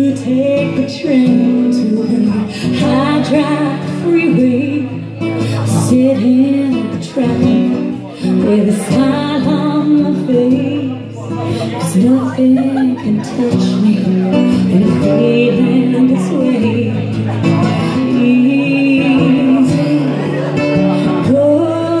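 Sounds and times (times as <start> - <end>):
acoustic guitar: 0.0 - 22.0
woman singing: 0.0 - 22.0.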